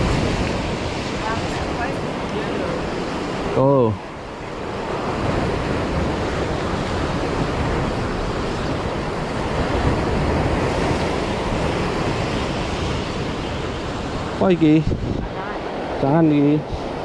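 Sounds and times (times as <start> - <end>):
sea surf breaking: 0.0 - 17.0
wind buffeting microphone: 0.0 - 17.0.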